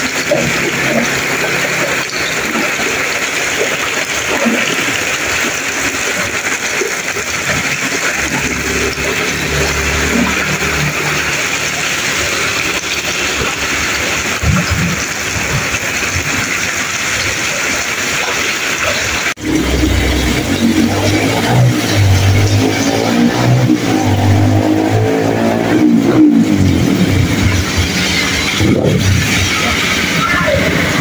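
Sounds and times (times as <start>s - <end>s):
heavy rain pouring on street: 0.0s - 31.0s.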